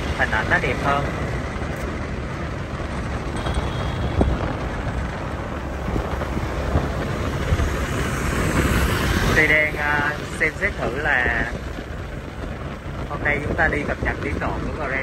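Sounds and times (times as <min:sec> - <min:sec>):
wind and road noise: 0:00.0 - 0:15.0
wind buffeting microphone: 0:00.0 - 0:15.0.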